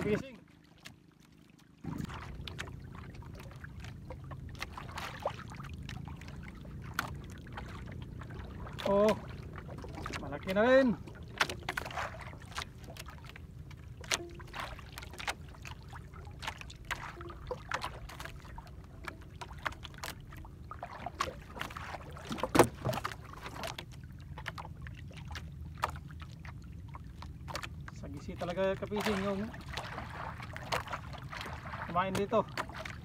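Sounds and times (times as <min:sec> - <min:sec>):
wind and sea rumble: 0:00.0 - 0:33.0.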